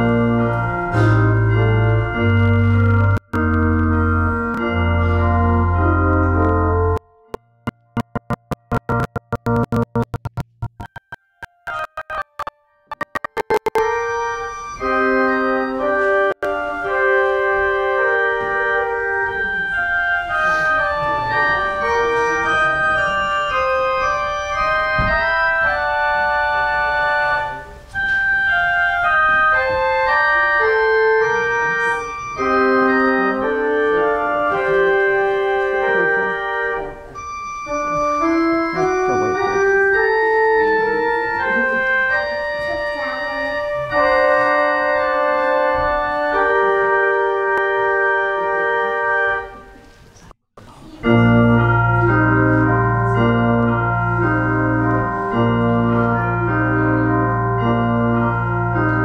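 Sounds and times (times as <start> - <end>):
church organ chords: 0.0 - 10.4, 11.7 - 49.9, 50.8 - 59.0.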